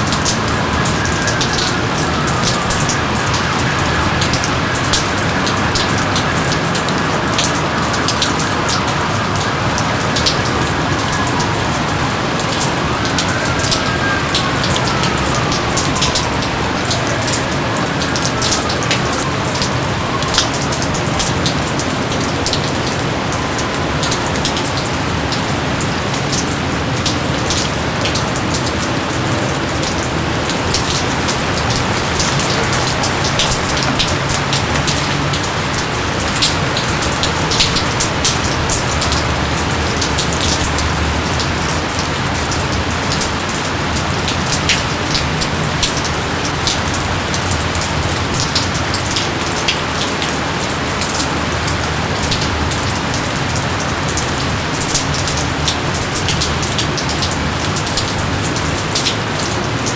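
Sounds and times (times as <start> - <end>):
close raindrops hitting: 0.0 - 59.9
steady rain: 0.0 - 59.9.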